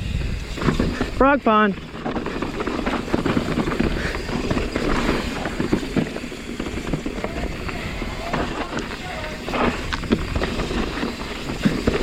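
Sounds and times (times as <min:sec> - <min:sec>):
bike knocks and rattles: 0:00.3 - 0:12.0
tyres crunching over dirt and rocks: 0:00.5 - 0:12.0.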